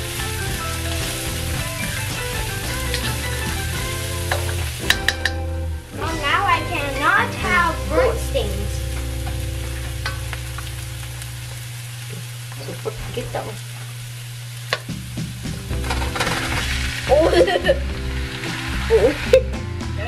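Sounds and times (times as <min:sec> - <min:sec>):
meat sizzling in hot oil: 0:00.0 - 0:19.8
onion and garlic sizzling in a wok: 0:00.0 - 0:20.0.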